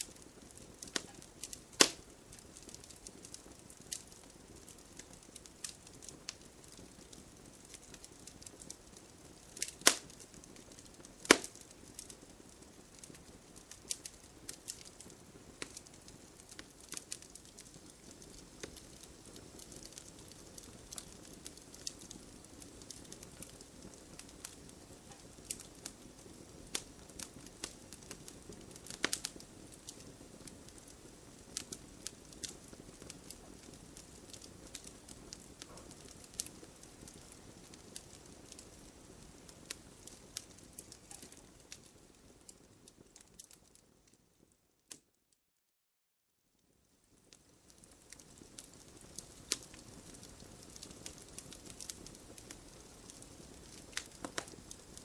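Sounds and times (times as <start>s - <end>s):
campfire crackling and popping: 0.0s - 45.0s, 46.6s - 55.0s
soft hiss of flame: 0.0s - 45.1s, 46.6s - 55.0s.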